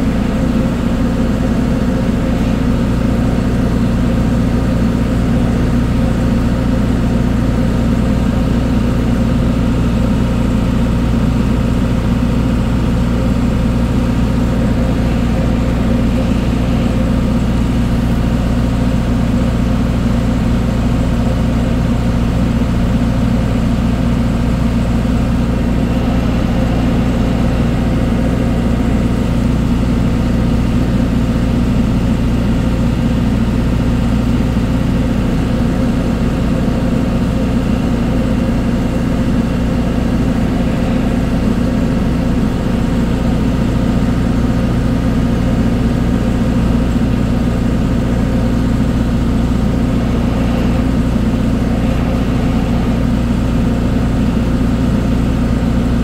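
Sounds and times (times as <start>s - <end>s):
ship engine droning: 0.0s - 56.0s.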